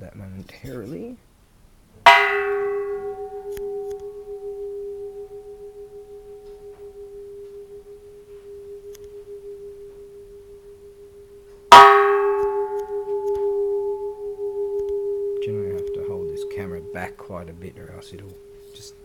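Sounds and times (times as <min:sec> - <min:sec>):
temple bell struck and humming: 0:02.1 - 0:19.0.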